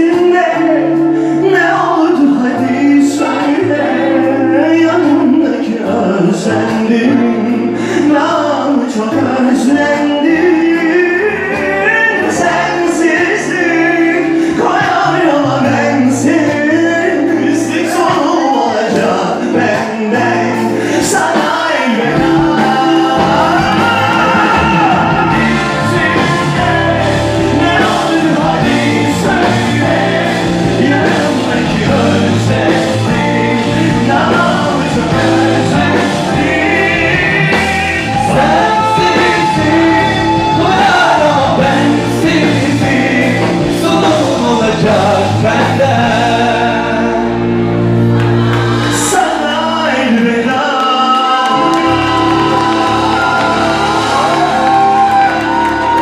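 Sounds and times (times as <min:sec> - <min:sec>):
band with electric guitar and keyboard: 0:00.0 - 0:56.0
men singing: 0:00.0 - 0:56.0.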